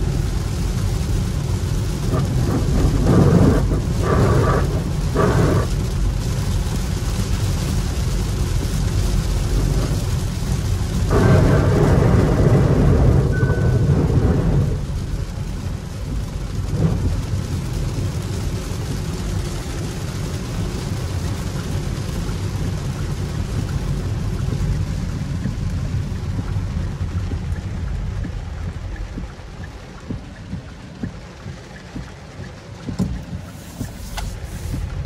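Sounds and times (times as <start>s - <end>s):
heavy rain on car: 0.0s - 35.0s
tyres on wet road: 0.0s - 35.0s.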